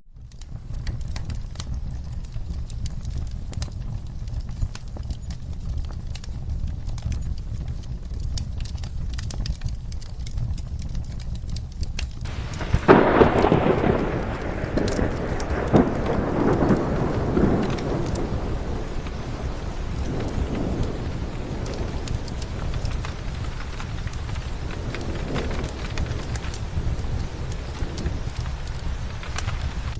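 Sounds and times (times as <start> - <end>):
steady rain: 0.1 - 29.9
fireplace crackling: 0.2 - 29.9
thunderclap rolling: 0.3 - 29.9.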